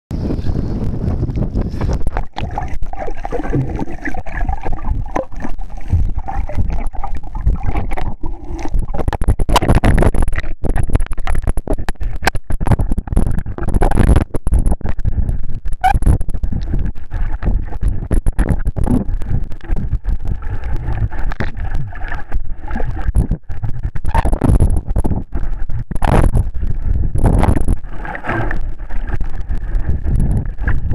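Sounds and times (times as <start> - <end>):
water sloshing and gurgling: 0.2 - 30.9.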